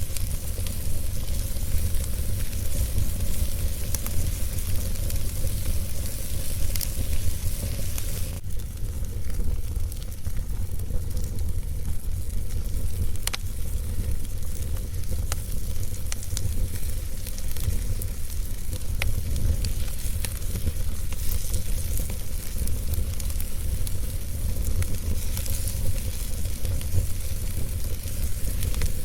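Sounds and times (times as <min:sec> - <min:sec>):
fire pops and crackles: 0:00.0 - 0:29.0
wood fire hissing: 0:00.0 - 0:29.0.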